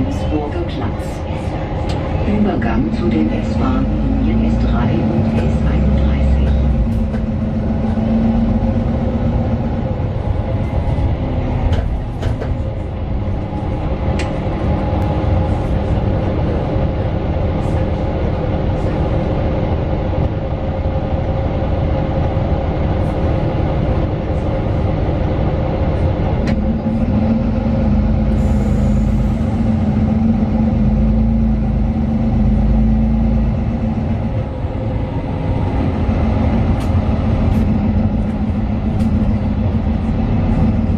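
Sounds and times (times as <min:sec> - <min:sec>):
bus diesel engine drone: 0:00.0 - 0:40.9
road rumble: 0:00.0 - 0:40.9.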